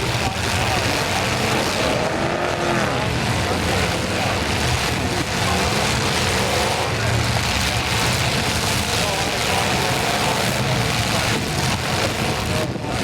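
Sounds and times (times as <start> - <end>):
car engines revving: 0.0 - 13.0
steady wash of noise: 0.0 - 13.0.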